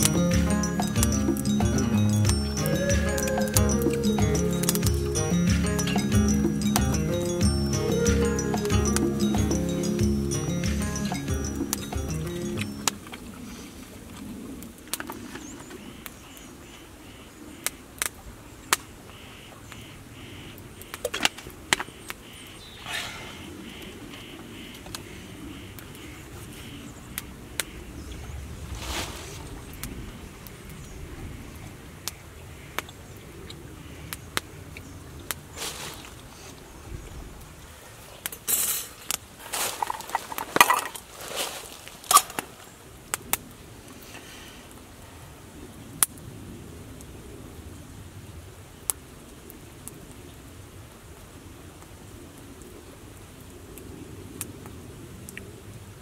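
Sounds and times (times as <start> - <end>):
faint outdoor background: 0.0 - 56.0.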